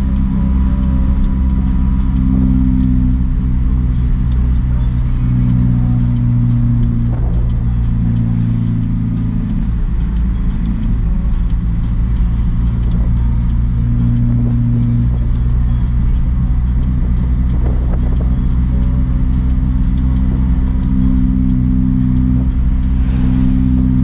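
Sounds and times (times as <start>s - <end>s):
road noise: 0.0s - 24.0s
truck engine running: 0.0s - 24.0s.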